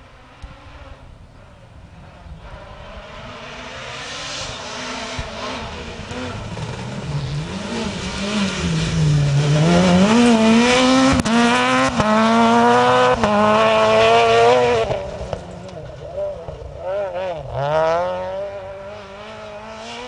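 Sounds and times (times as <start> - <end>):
rally car engine at full throttle: 0.0 - 20.0.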